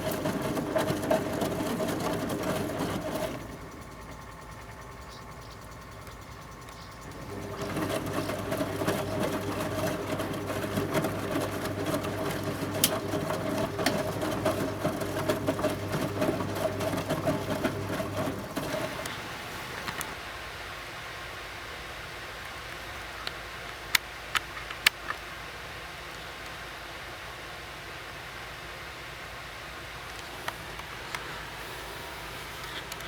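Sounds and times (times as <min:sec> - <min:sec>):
washing machine running: 0:00.0 - 0:23.2, 0:26.6 - 0:33.0.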